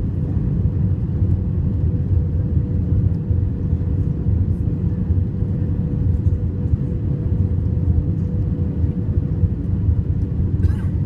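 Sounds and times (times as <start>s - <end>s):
airflow and engine rumble: 0.0s - 11.0s
mid-pitched hum: 0.0s - 11.0s.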